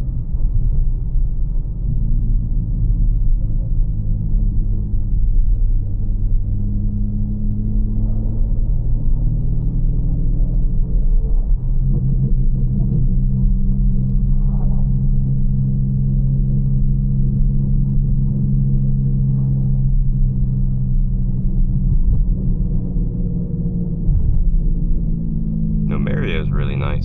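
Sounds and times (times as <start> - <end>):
low engine drone: 0.0 - 27.0
road rumble: 0.0 - 27.0.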